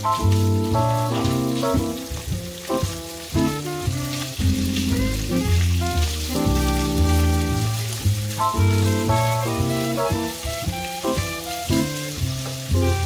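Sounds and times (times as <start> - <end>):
background music: 0.0 - 13.0
meat sizzling in a frying pan: 0.0 - 13.0.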